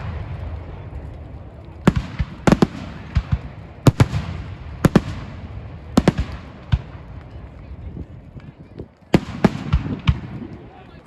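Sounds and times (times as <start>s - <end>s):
fireworks bangs: 0.0s - 7.7s, 9.1s - 10.7s.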